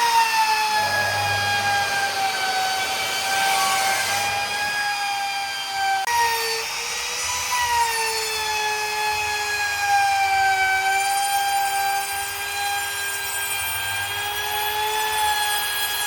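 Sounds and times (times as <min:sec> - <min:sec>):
power tool whining on wood: 0:00.0 - 0:16.0.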